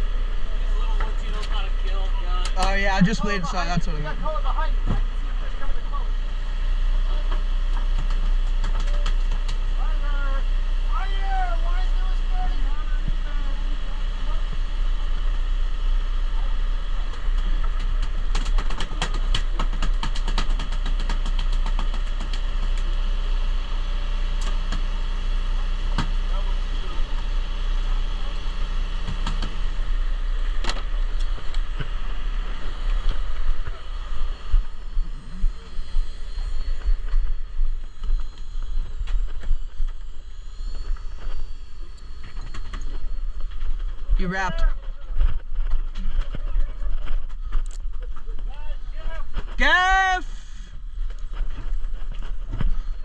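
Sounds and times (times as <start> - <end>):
boat engine humming: 0.0 - 49.1.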